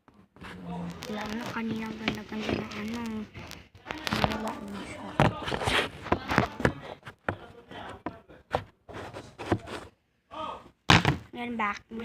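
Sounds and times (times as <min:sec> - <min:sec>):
objects tapping and knocking: 0:00.1 - 0:09.9, 0:10.9 - 0:11.3.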